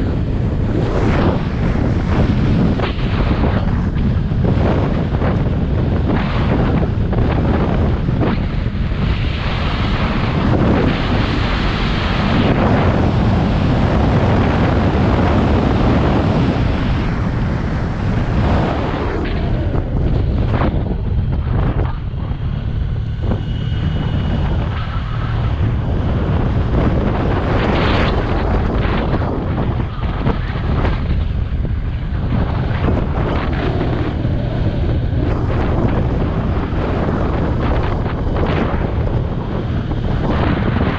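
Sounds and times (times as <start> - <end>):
motorcycle engine rumble: 0.0 - 40.9
wind buffeting microphone: 0.0 - 40.9.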